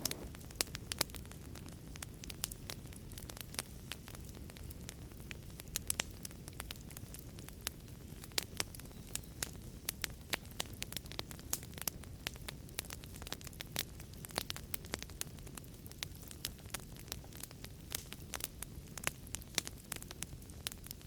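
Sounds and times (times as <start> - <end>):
rush of burning flames: 0.0 - 21.0
wood fire crackling and popping: 0.0 - 21.0.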